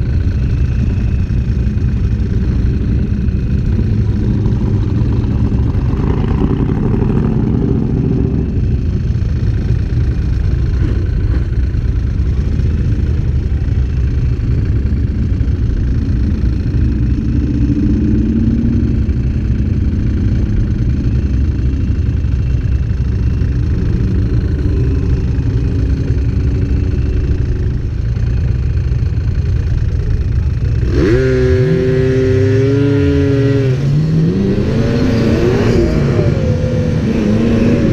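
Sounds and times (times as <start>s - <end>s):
vehicle engines rumbling: 0.0s - 37.9s.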